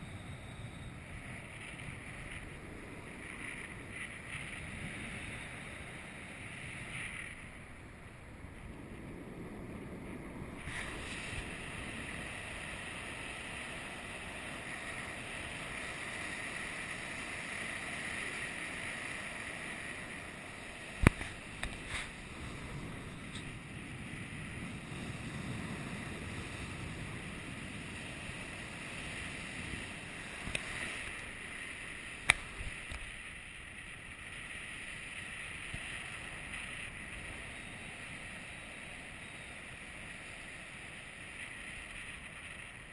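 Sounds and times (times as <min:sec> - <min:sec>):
wind rushing over microphone: 0:00.0 - 0:41.2.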